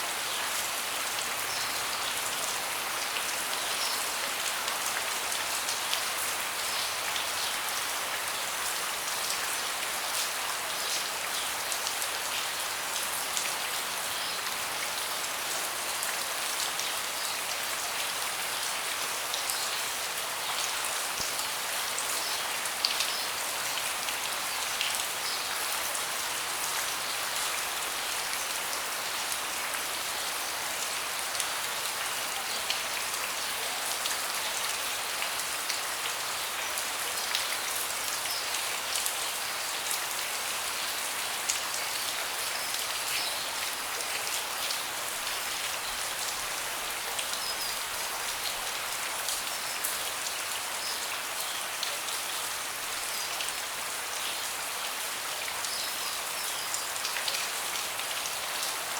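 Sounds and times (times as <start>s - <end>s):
rain falling on a deck: 0.0s - 58.9s.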